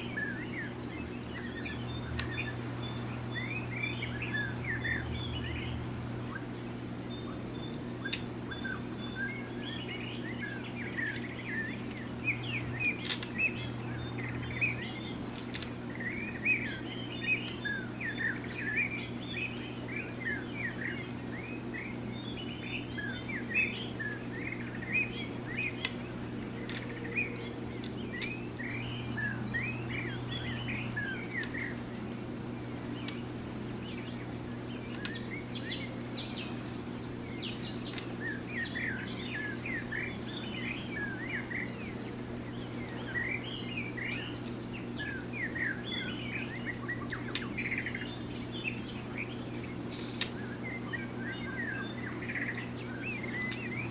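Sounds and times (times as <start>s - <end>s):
small birds chirping: 0.0s - 53.9s
steady low hum: 0.0s - 53.9s.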